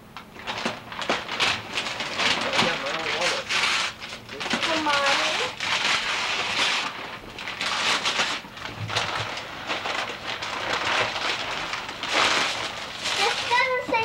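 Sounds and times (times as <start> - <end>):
wrapping paper rustling: 0.2 - 14.0.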